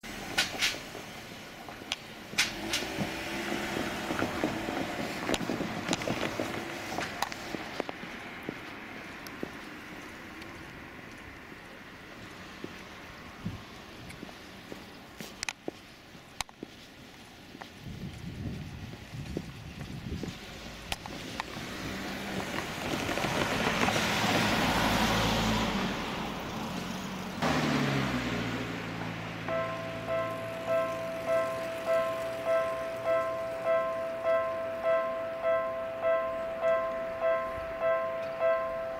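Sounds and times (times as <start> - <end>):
road vehicle running noise: 0.0 - 38.9.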